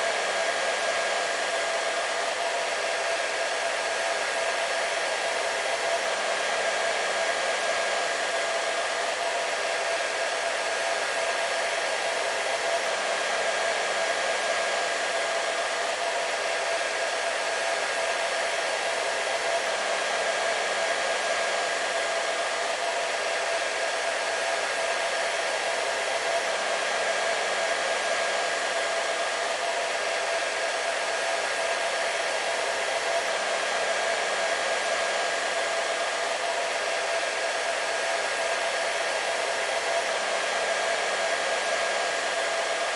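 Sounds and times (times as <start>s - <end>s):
hair dryer blowing: 0.0s - 42.9s.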